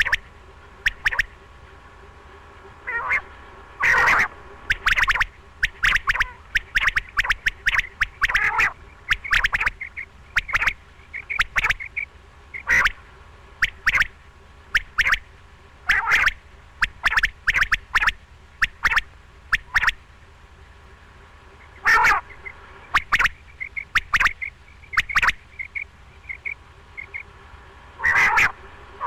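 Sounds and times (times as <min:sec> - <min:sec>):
quail calling: 0:00.0 - 0:01.4, 0:02.8 - 0:13.0, 0:13.6 - 0:20.0, 0:21.6 - 0:27.3, 0:28.0 - 0:29.0.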